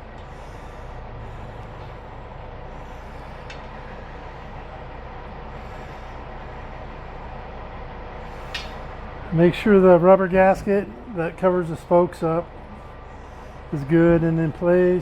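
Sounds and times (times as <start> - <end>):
faint hum: 0.0 - 15.0
low rumbling background noise: 0.0 - 15.0.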